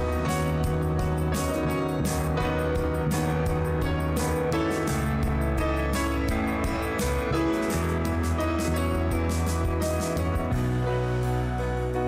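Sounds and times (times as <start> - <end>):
held bass notes: 0.0 - 12.0
strummed guitar: 0.0 - 12.0.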